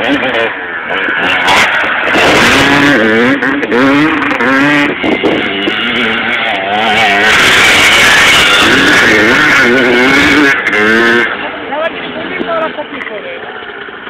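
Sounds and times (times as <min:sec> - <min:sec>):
motorbike engine revving: 0:00.0 - 0:14.0.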